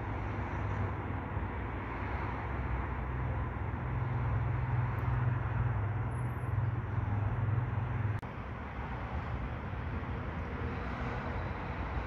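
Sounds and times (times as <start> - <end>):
steady urban rumble: 0.0 - 12.0.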